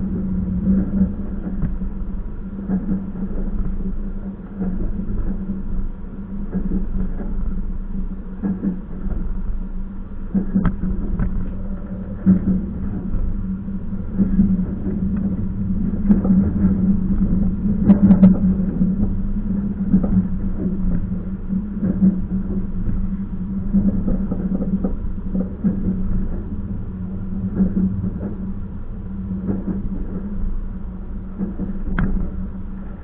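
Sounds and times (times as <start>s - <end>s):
train interior low hum: 0.0s - 33.0s.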